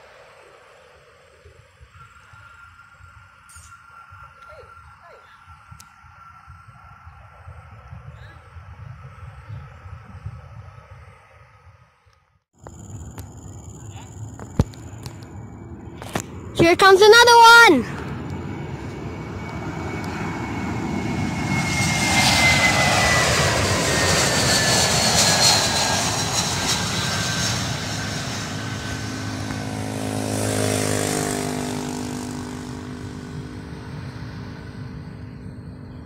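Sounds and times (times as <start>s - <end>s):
jet airliner passing low: 0.0s - 36.0s.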